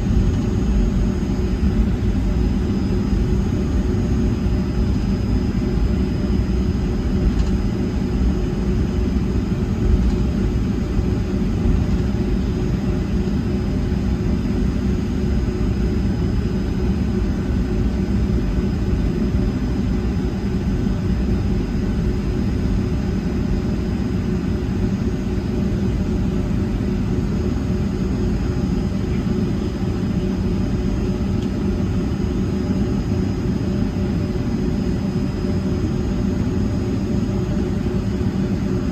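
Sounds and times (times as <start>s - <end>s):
jet engines from inside cabin: 0.0s - 38.9s.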